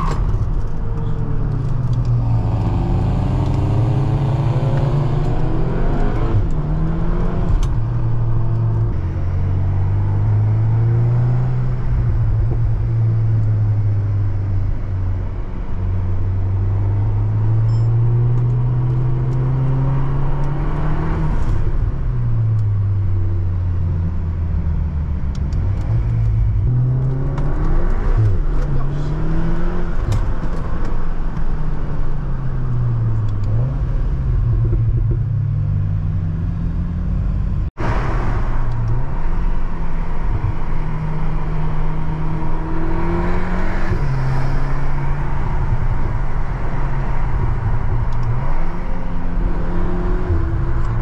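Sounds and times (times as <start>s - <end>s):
car engine accelerating through gears: 0.0s - 51.0s.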